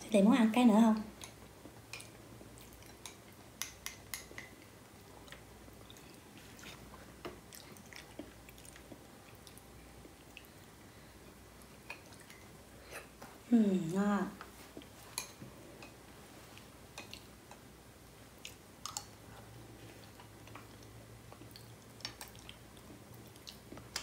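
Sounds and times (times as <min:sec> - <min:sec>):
soft mouth eating sounds: 0:01.2 - 0:17.6, 0:18.4 - 0:24.0.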